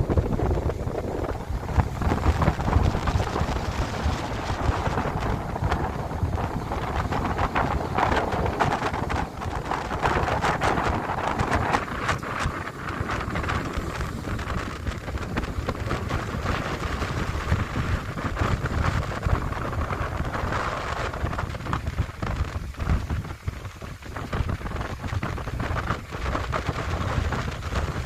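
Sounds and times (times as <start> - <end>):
sea waves breaking: 0.0 - 28.0
wind buffeting microphone: 0.0 - 28.0.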